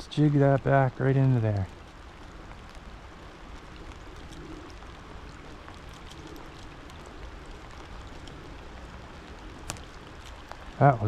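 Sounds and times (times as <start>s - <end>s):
freezing rain hissing: 0.0s - 11.0s.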